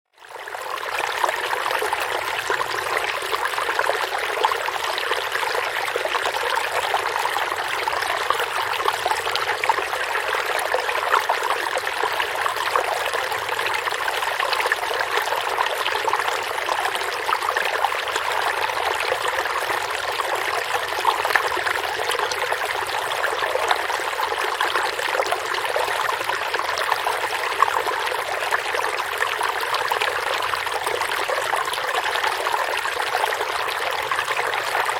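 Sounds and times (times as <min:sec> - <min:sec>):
stream flowing over rocks: 0:00.2 - 0:34.9.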